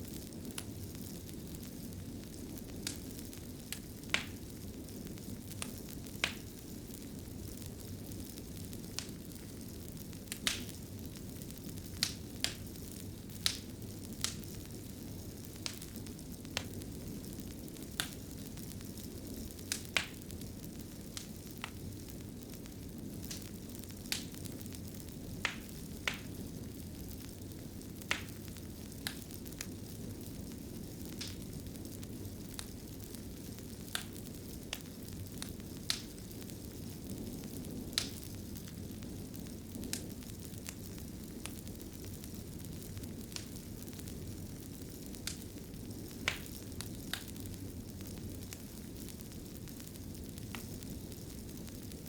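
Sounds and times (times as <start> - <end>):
fireplace fire crackling: 0.0 - 52.0.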